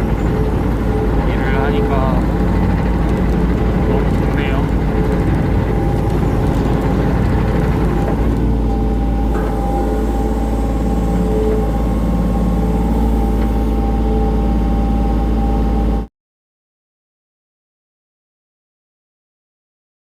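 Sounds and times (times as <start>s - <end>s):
excavator diesel engine running: 0.0s - 16.1s
hydraulic whine: 0.0s - 16.1s.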